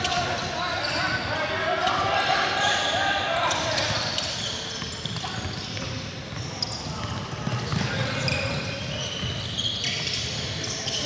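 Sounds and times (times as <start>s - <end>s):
shoes squeaking: 0.0s - 11.0s.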